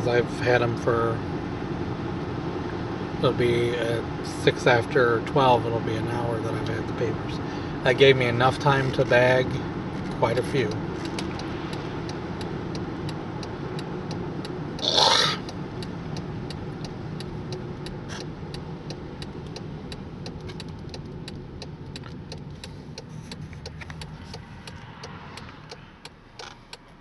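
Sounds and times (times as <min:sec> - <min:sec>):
car engine hum: 0:00.0 - 0:27.0.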